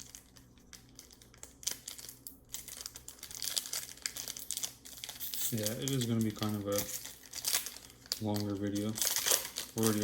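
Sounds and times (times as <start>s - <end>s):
card pack wrapper tearing: 0.0s - 10.0s.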